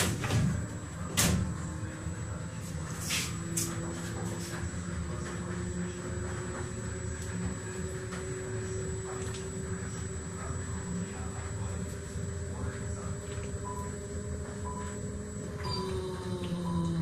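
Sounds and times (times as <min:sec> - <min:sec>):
honey extractor motor hum: 0:00.6 - 0:17.0.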